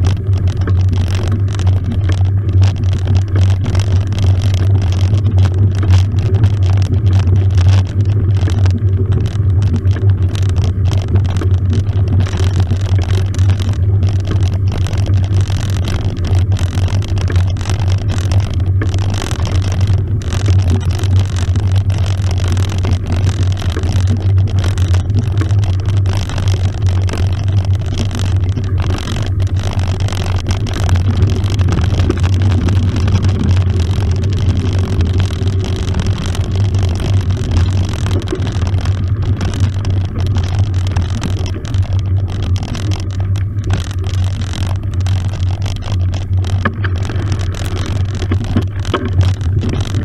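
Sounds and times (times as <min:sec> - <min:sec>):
bike tyres rumbling on gravel: 0:00.0 - 0:50.0.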